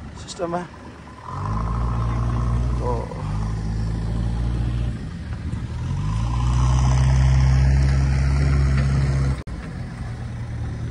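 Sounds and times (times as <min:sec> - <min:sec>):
car engine revving: 0:00.7 - 0:09.5.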